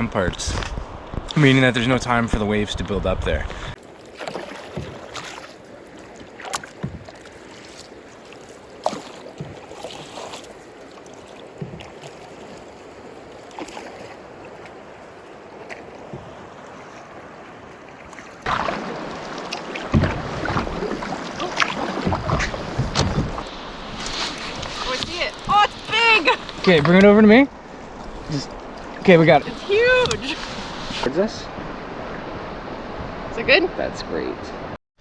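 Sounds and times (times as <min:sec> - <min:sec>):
water slapping against hull: 0:03.5 - 0:32.3
paddle strokes and splashes: 0:03.5 - 0:33.2.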